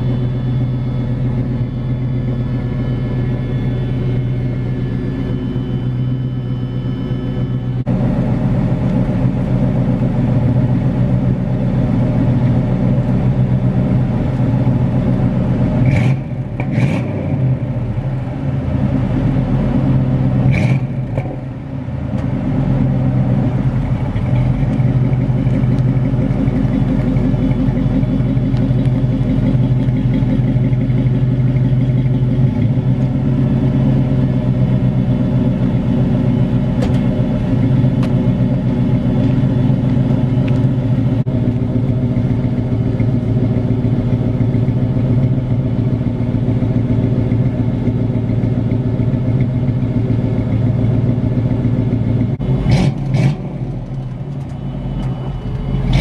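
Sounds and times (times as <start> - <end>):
loud low car exhaust drone: 0.0 - 56.0.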